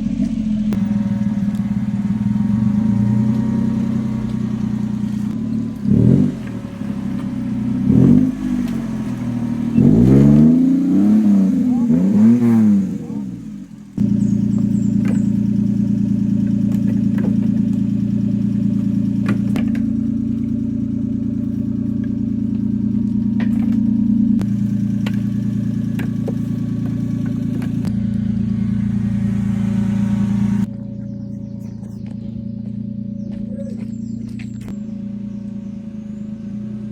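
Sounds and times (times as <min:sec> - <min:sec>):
engine running steadily: 0:00.0 - 0:36.9.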